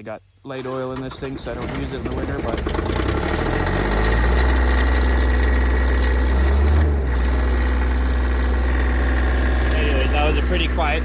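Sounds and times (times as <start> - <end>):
diesel engine idling: 0.9 - 11.0.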